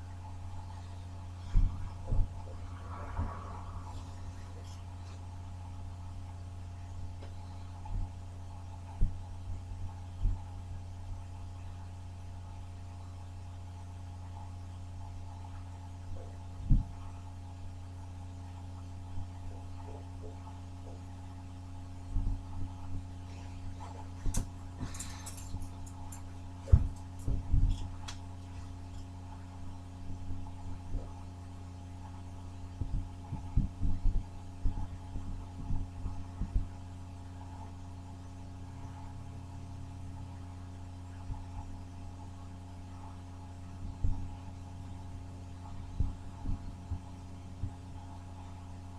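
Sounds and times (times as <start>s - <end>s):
low electrical hum: 0.0s - 48.9s.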